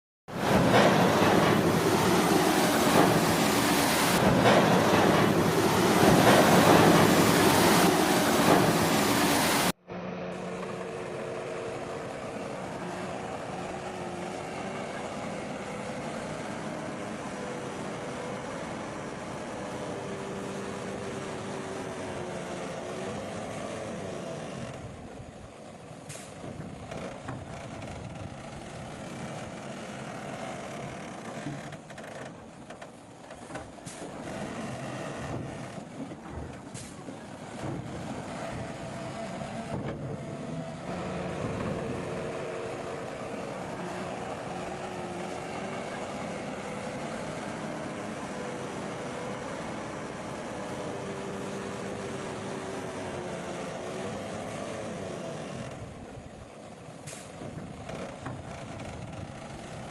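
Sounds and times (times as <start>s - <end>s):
diesel engine drone: 0.3s - 59.9s.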